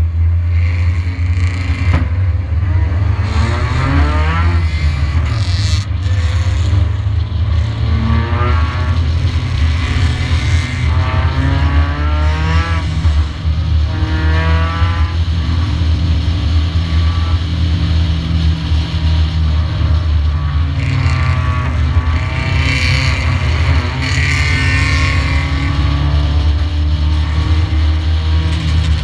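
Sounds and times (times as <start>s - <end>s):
race car engine: 0.0s - 29.0s.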